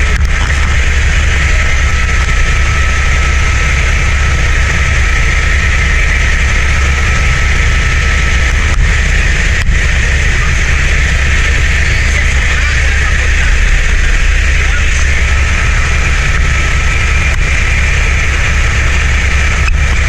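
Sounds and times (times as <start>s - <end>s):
faint steady whine: 0.0s - 20.0s
helicopter engine and rotor noise: 0.0s - 20.0s.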